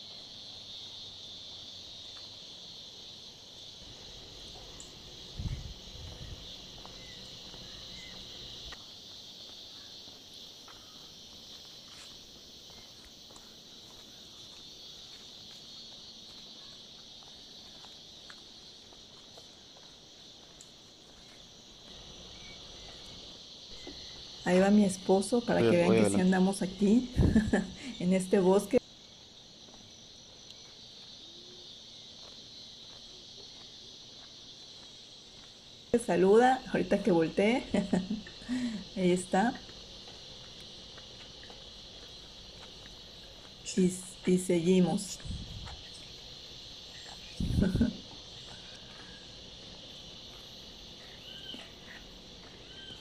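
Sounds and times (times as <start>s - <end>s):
insect chorus chirring: 0.0s - 53.0s.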